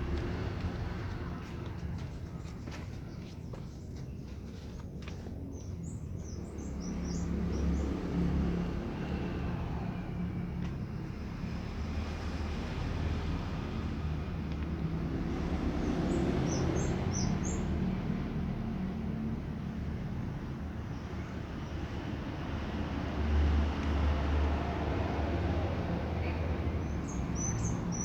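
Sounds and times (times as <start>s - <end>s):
distant traffic rumble: 0.0s - 28.0s.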